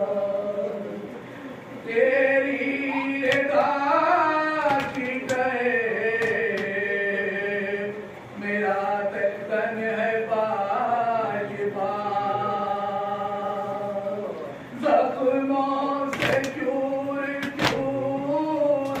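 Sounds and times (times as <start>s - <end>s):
men chanting a lament: 1.9s - 19.0s.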